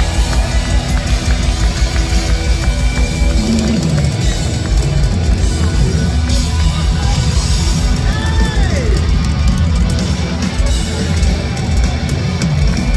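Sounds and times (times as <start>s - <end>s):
heavy metal band playing live: 0.0s - 12.9s.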